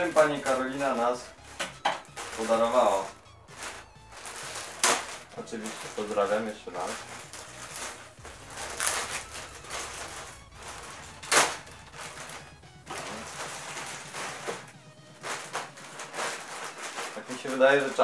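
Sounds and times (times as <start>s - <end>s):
plastic mailer bag crinkling: 0.0s - 18.0s.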